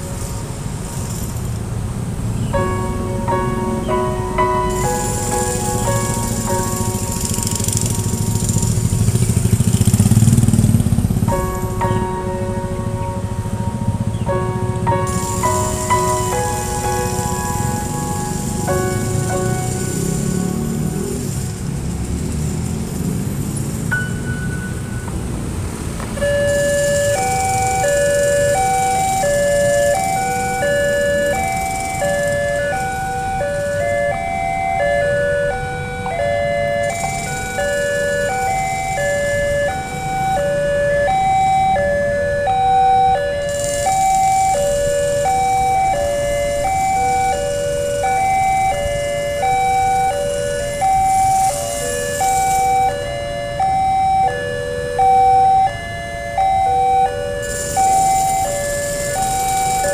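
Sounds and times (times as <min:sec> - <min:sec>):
road traffic: 0:00.0 - 0:59.9
level crossing electronic chime: 0:02.4 - 0:09.2, 0:11.3 - 0:21.5, 0:26.2 - 0:59.9.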